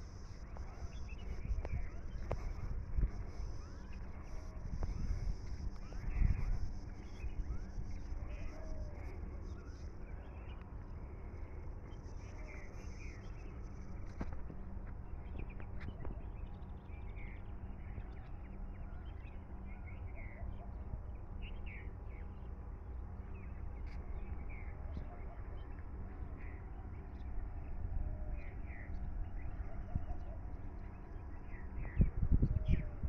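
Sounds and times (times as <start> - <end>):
small birds chirping: 0.0 - 33.0
steady low hum: 0.0 - 33.0.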